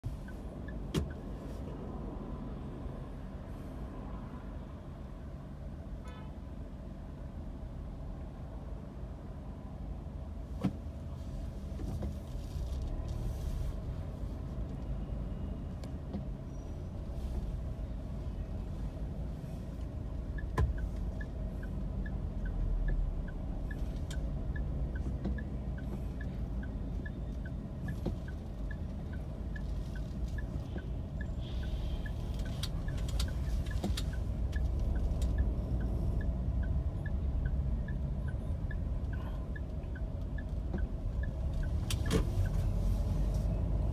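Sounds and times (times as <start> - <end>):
turn signal ticking: 0.0 - 1.8, 6.7 - 43.9
car engine and road rumble: 0.0 - 43.9.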